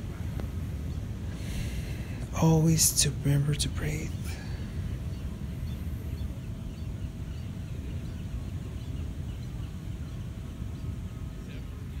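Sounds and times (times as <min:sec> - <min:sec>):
steady low rumble: 0:00.0 - 0:12.0
faint bird chirps: 0:00.7 - 0:12.0.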